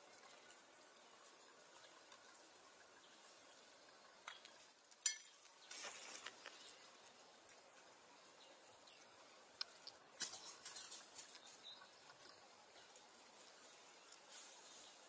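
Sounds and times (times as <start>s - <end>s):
faint outdoor ambience: 0.0s - 15.0s
soft crackles: 0.0s - 15.0s.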